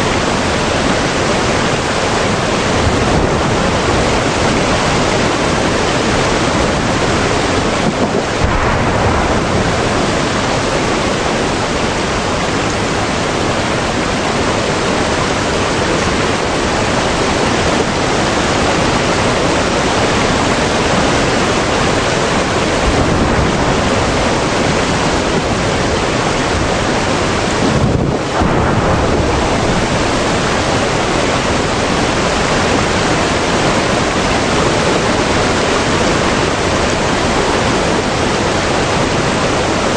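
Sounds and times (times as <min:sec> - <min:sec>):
steady loud rushing noise: 0:00.0 - 0:39.9.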